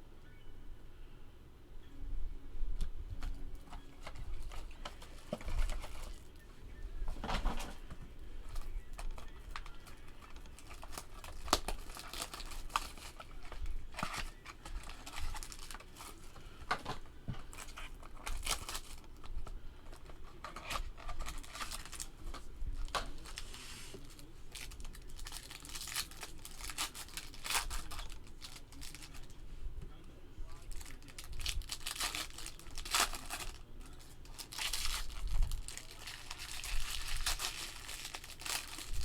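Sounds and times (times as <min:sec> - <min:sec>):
packaging crinkling and ripping: 0:02.8 - 0:06.4, 0:07.0 - 0:29.4, 0:30.5 - 0:39.0.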